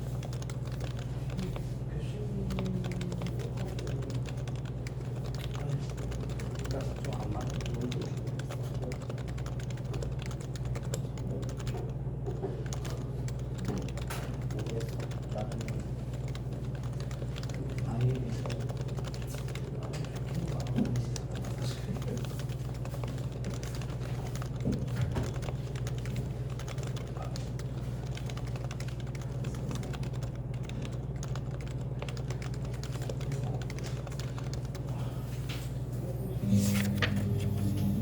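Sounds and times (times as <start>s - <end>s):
keyboard typing: 0.0s - 38.0s
low steady hum: 0.0s - 38.0s.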